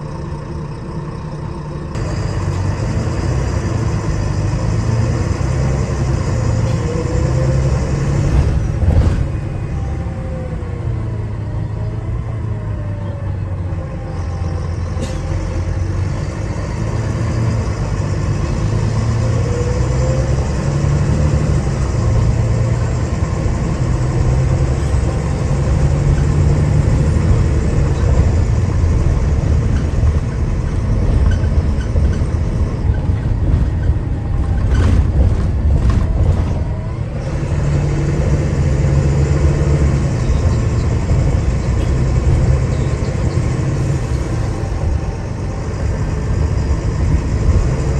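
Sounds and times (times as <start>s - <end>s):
bus diesel engine pulling: 0.0s - 47.9s.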